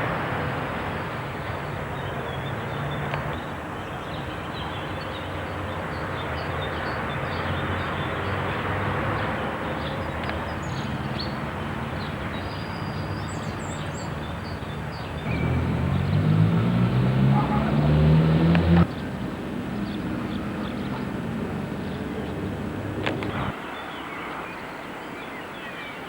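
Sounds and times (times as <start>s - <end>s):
rushing background noise: 0.0s - 26.0s
small birds chirping: 0.0s - 26.0s.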